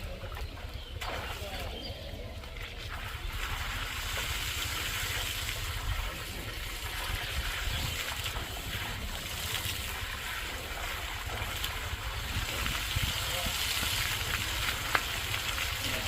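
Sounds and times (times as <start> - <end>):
flowing water rushing: 0.0 - 16.0
wind rumbling on microphone: 0.2 - 16.0.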